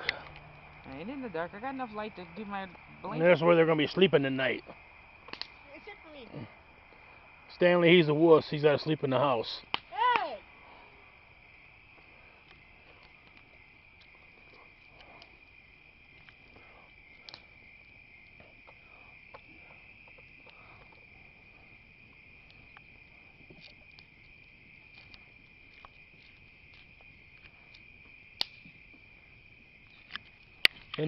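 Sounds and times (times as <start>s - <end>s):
campfire crackling and popping: 0.0s - 31.0s
crickets trilling: 0.0s - 31.0s.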